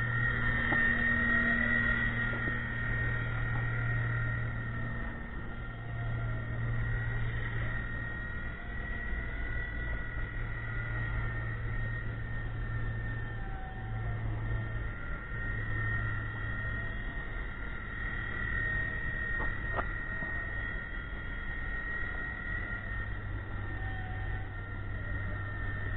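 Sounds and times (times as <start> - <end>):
high-pitched motor whine: 0.0 - 25.9
low rotor hum: 0.0 - 25.9.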